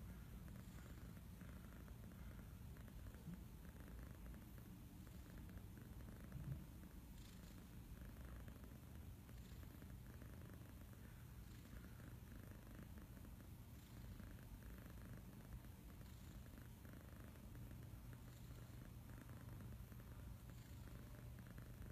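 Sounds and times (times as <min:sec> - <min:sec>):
kitten purring: 0:00.0 - 0:21.9.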